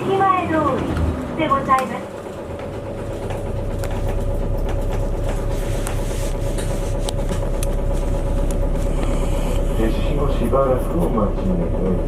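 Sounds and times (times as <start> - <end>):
bus engine and road rumble: 0.0 - 12.0
constant whine: 0.0 - 12.0.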